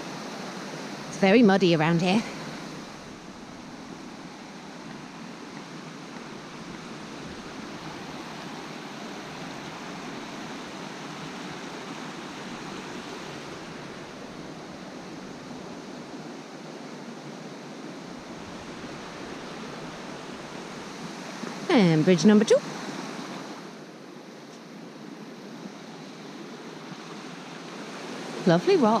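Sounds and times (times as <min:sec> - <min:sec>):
river rushing over rapids: 0:00.0 - 0:29.0.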